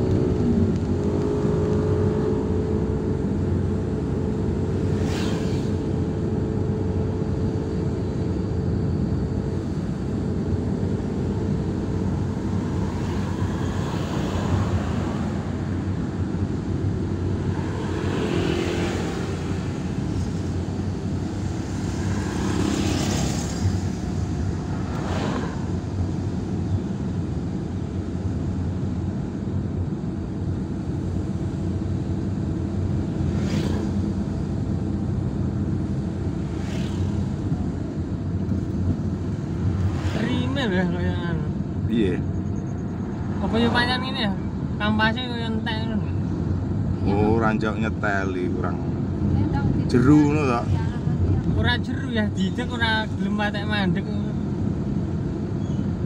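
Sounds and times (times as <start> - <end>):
passing vehicles swooshing: 0.0 - 56.0
vehicle engine and road noise: 0.0 - 56.0.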